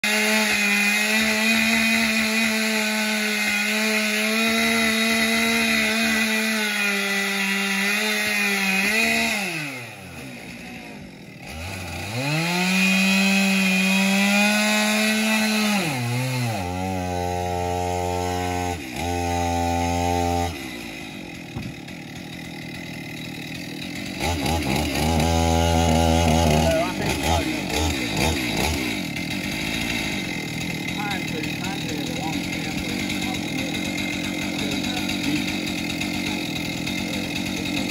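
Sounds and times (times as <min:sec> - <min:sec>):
chainsaw cutting wood: 0:00.0 - 0:37.9.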